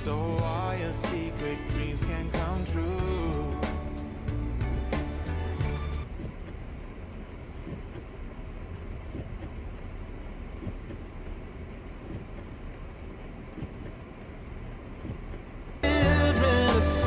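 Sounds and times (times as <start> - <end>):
car driving on snowy road: 0.0 - 16.6.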